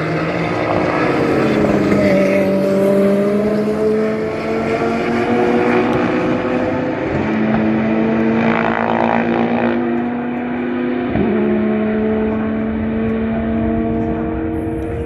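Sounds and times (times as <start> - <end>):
race car engines running: 0.0 - 15.0
race car passing: 0.0 - 15.0.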